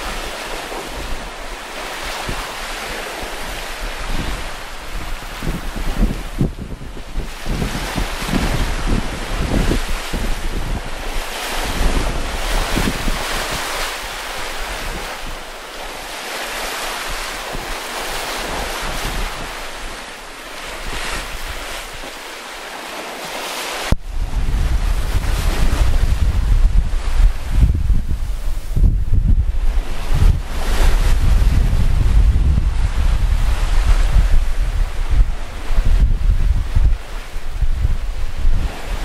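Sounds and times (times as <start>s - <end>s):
rushing ocean water: 0.0s - 39.0s
wind buffeting microphone: 0.0s - 39.0s.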